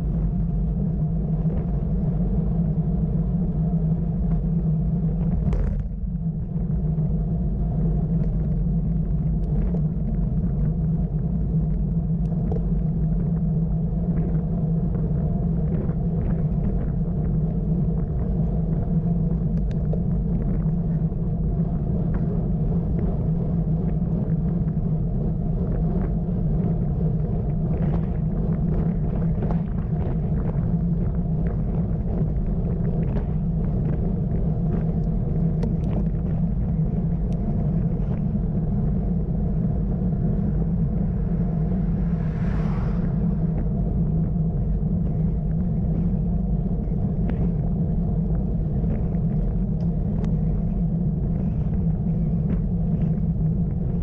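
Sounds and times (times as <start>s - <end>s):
road and wind rumble: 0.0s - 54.0s.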